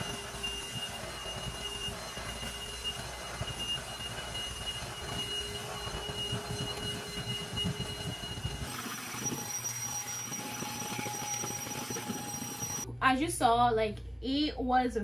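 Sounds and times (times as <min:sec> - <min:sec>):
handheld vacuum whining: 0:00.0 - 0:12.8.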